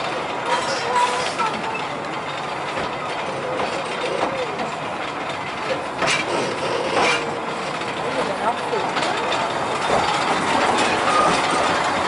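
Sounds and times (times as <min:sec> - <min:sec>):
steam train wheels on track: 0:00.0 - 0:12.0.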